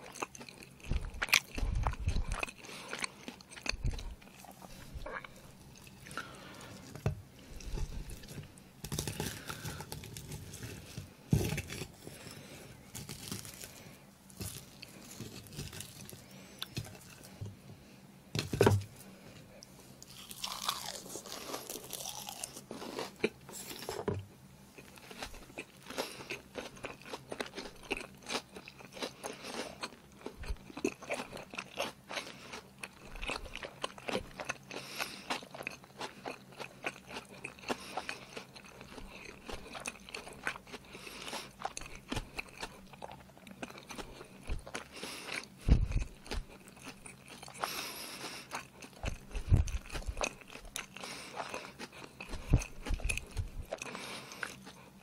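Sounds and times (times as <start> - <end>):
chewing and smacking: 0.0 - 17.5, 19.6 - 24.0, 24.8 - 55.0.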